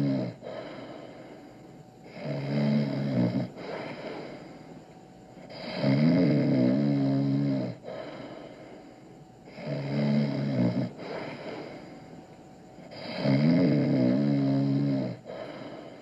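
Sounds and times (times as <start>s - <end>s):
man snoring: 0.0s - 4.8s, 5.4s - 8.8s, 9.4s - 12.2s, 12.8s - 16.0s.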